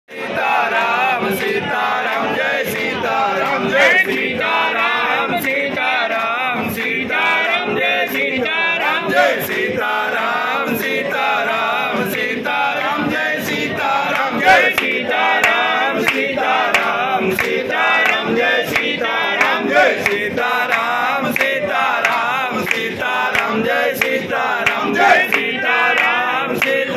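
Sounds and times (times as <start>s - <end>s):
crowd chanting and singing: 0.1s - 26.9s.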